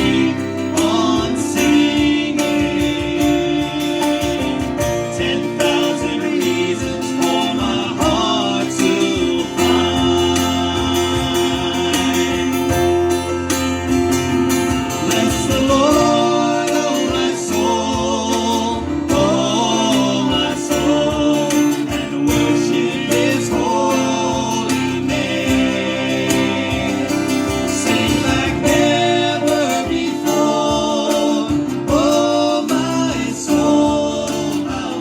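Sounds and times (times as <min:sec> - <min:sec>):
person singing worship song: 0:00.0 - 0:13.3, 0:14.8 - 0:35.0
guitar accompaniment: 0:00.0 - 0:35.0
steady bass: 0:00.0 - 0:35.0.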